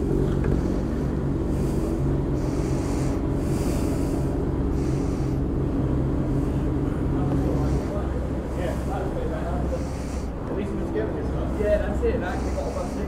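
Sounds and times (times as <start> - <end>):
breathing close to microphone: 0.0 - 13.0
motorcycle engine running: 0.0 - 13.0.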